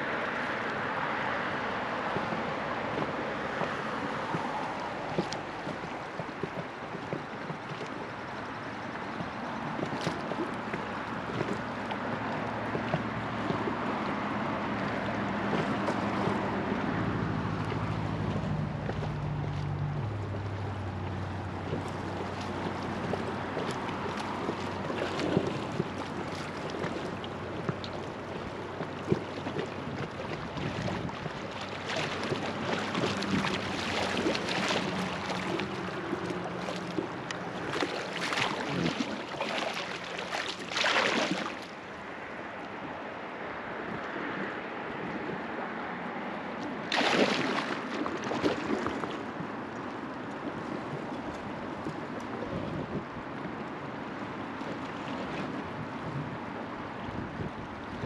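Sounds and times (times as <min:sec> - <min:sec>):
river water rushing and splashing: 0:00.0 - 0:58.0.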